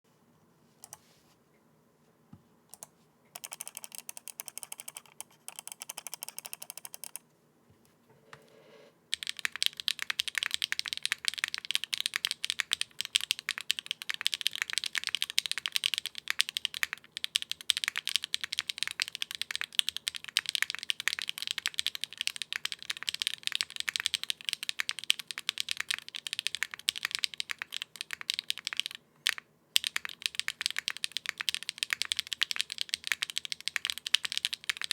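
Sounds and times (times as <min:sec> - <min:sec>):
mechanical keyboard typing: 0:02.7 - 0:07.2, 0:09.1 - 0:34.9.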